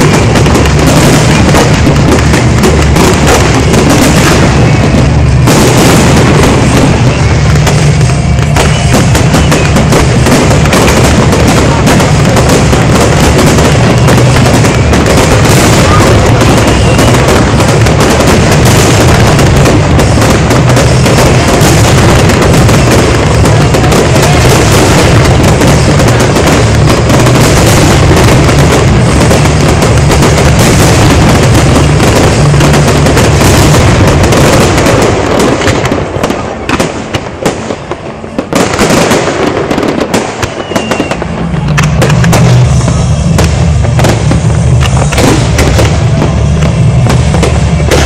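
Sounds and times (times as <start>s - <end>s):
fireworks bursting and crackling: 0.0s - 48.0s.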